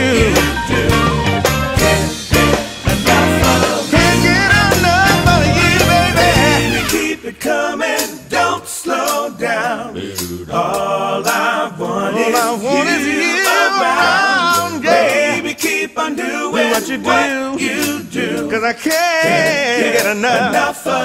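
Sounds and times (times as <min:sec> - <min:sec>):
voices singing with vibrato: 0:00.0 - 0:21.0.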